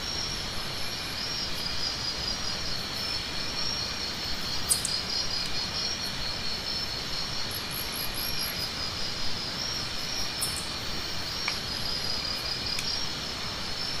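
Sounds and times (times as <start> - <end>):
insects chirping: 0.0 - 14.0
low outdoor hiss: 0.0 - 14.0.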